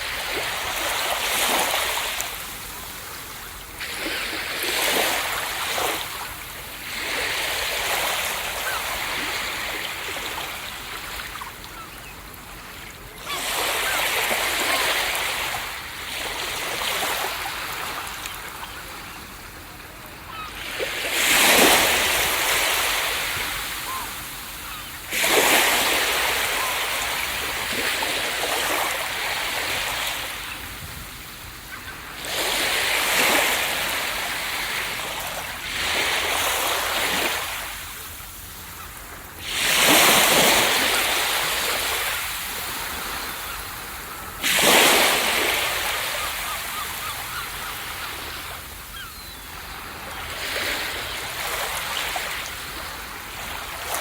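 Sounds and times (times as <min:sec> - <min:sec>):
ocean waves breaking on a beach: 0:00.0 - 0:54.0.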